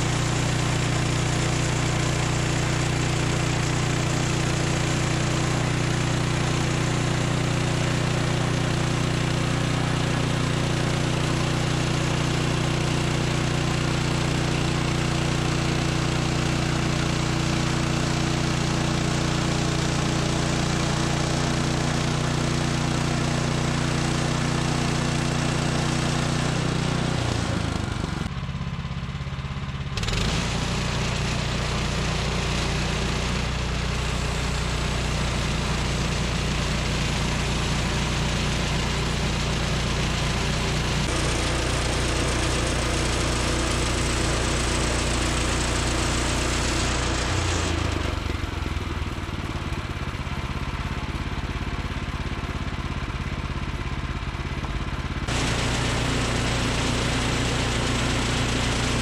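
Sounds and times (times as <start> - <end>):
sawmill engine running under load: 0.0 - 59.0.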